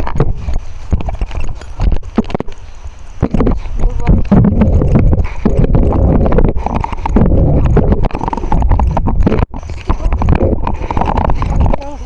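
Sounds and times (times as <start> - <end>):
heavy low rumble: 0.0 - 12.0.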